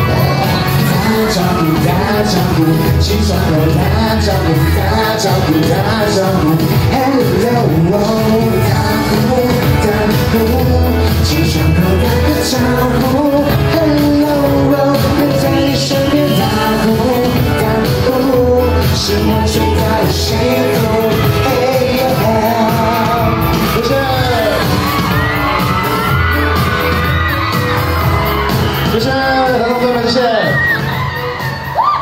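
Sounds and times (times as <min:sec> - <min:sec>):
live pop band playing: 0:00.0 - 0:32.0.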